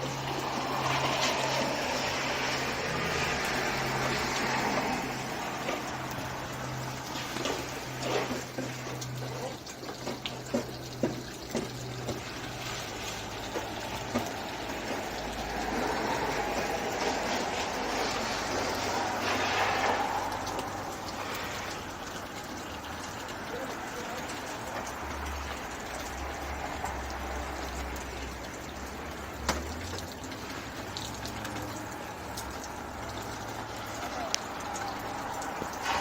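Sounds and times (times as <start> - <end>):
distant propeller plane roar: 0.0 - 36.0.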